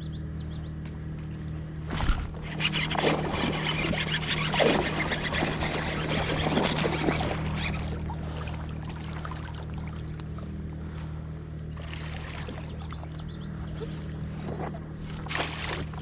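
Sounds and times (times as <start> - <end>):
water splashing: 1.9 - 13.1, 13.7 - 16.0.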